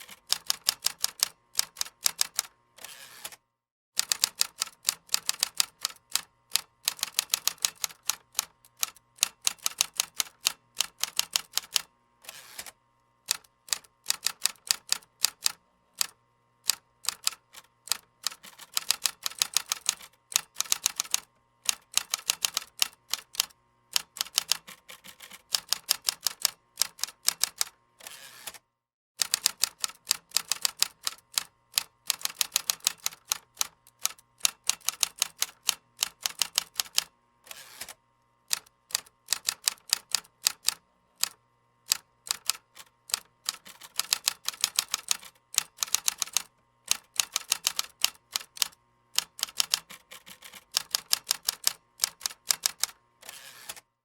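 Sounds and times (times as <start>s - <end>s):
typing on computer keyboard: 0.0s - 2.5s, 4.0s - 11.9s, 13.3s - 27.7s, 29.2s - 37.1s, 37.8s - 53.8s.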